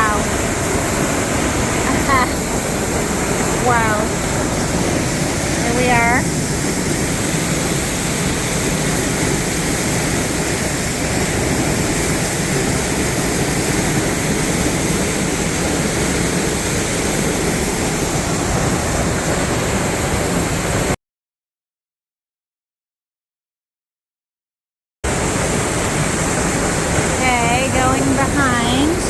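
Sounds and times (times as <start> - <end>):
waterfall rushing: 0.0 - 21.0, 25.1 - 29.0.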